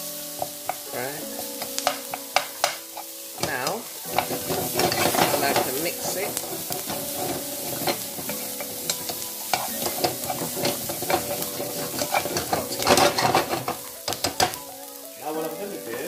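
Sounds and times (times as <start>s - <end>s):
food sizzling in a frying pan: 0.0s - 16.0s
spatula scraping a frying pan: 0.2s - 14.7s.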